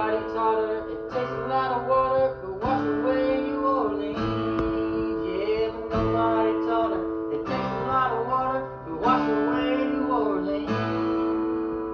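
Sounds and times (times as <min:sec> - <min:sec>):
acoustic guitar strumming: 0:00.0 - 0:11.9.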